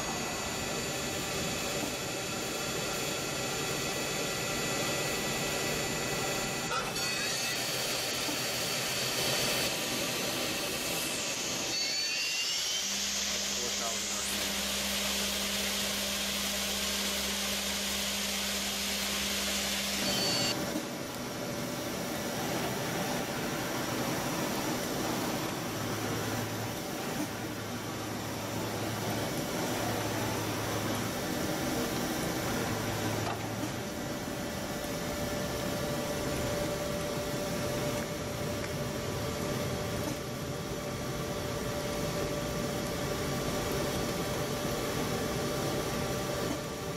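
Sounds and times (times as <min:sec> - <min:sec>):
lathe hum with high hiss: 0:00.0 - 0:46.9.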